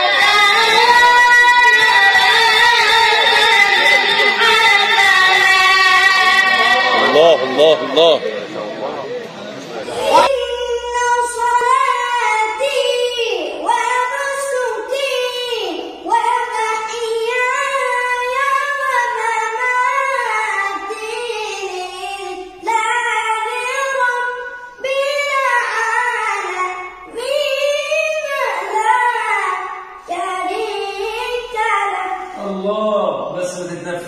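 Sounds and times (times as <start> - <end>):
boy reciting melodically: 0.0 - 8.2, 9.8 - 34.0.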